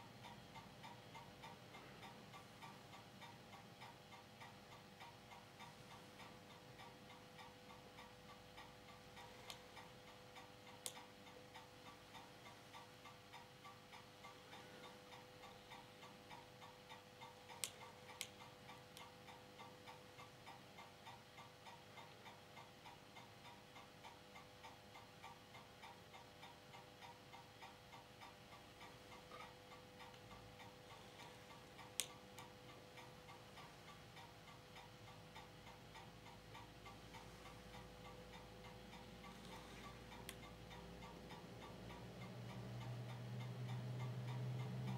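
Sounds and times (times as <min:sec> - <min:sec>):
projector running hum: 0:00.0 - 0:44.9
soft ticking: 0:00.0 - 0:44.9.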